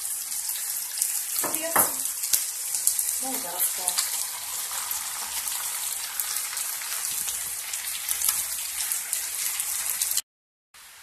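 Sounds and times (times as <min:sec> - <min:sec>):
food sizzling in oil: 0:00.0 - 0:10.2, 0:10.8 - 0:11.0.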